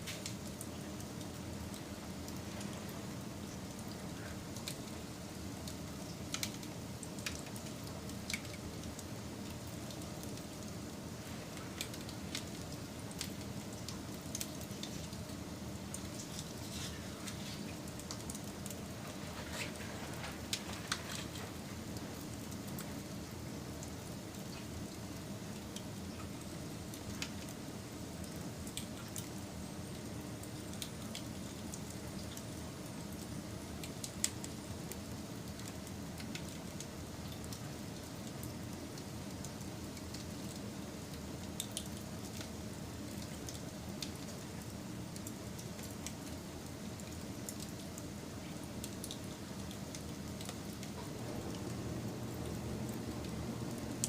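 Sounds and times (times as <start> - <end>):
wood fire burning: 0.0 - 54.0.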